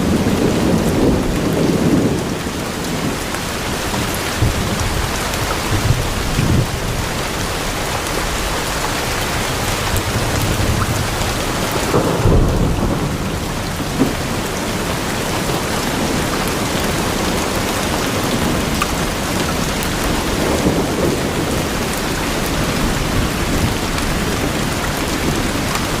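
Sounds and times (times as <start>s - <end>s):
heavy rain: 0.0s - 26.0s
thunder rumbling: 0.0s - 26.0s.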